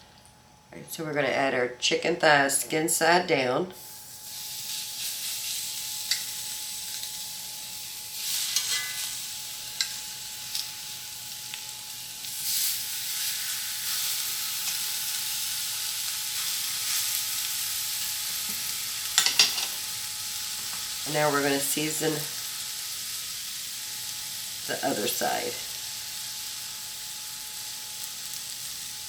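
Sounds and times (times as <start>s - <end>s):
chicken sizzling in a skillet: 3.8s - 29.0s.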